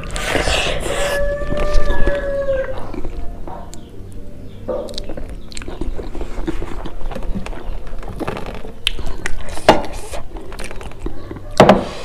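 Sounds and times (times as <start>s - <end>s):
chewing and lip-smacking: 0.0s - 11.6s.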